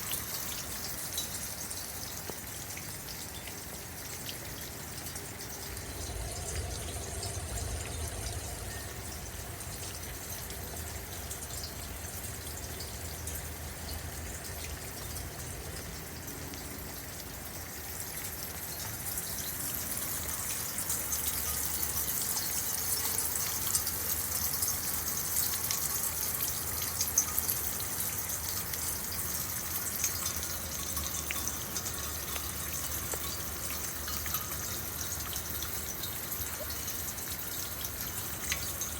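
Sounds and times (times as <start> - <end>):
rainwater gushing down rain chain: 0.0 - 38.9
water drips: 0.0 - 38.9.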